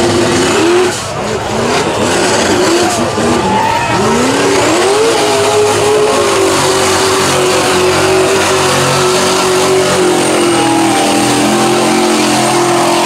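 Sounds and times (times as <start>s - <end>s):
truck engine revving hard: 0.0s - 13.0s.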